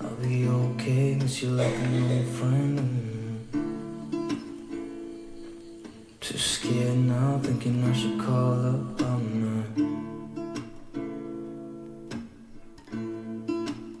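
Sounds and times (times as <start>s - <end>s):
strummed guitar music: 0.0s - 14.0s.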